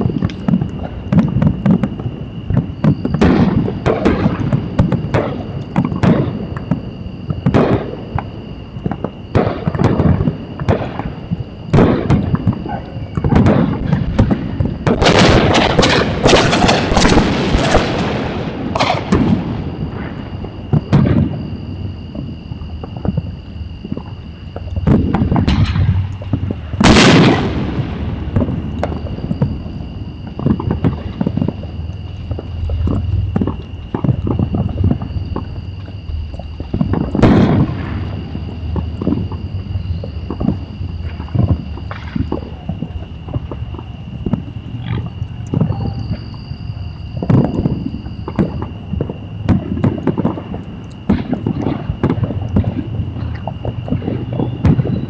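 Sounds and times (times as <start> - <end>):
fireworks bangs and pops: 0.0 - 55.0
fireworks crackling barrage: 0.0 - 55.0.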